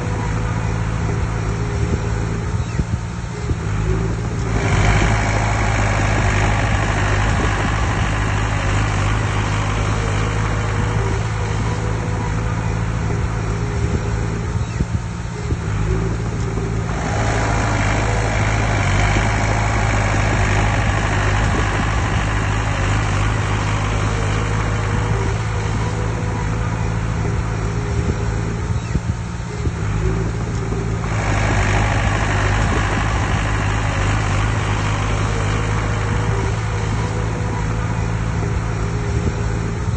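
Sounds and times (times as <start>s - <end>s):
heavy machinery diesel engine: 0.0s - 39.9s
machinery clatter: 1.1s - 39.9s.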